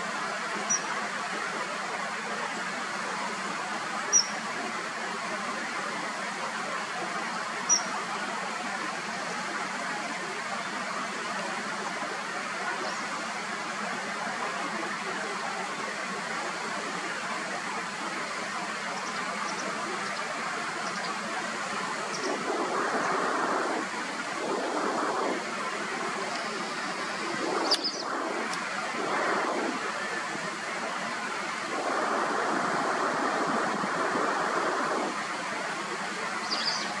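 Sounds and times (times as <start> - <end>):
rushing outdoor noise: 0.0 - 37.0.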